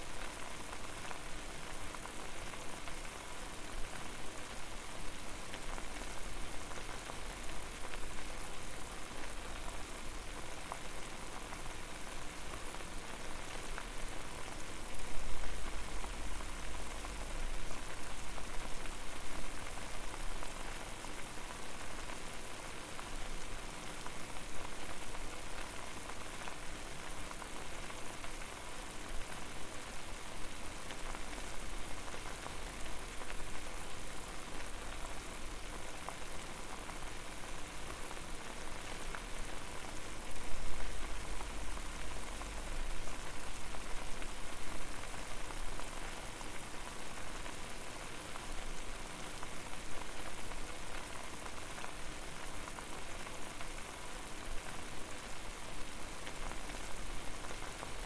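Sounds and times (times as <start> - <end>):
water boiling: 0.0 - 58.0.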